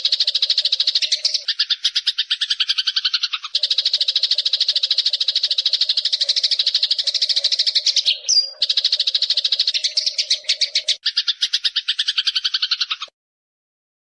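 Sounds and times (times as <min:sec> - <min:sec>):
sparrow chirping: 0:00.0 - 0:13.1.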